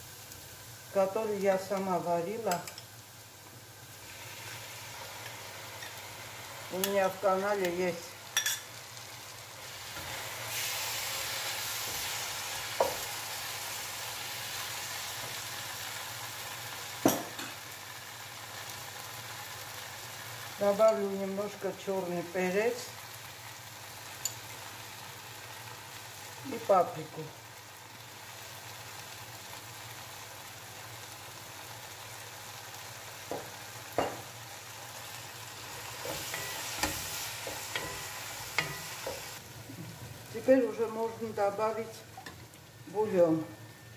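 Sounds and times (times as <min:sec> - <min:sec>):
vegetables sizzling in oil: 0:00.0 - 0:43.9.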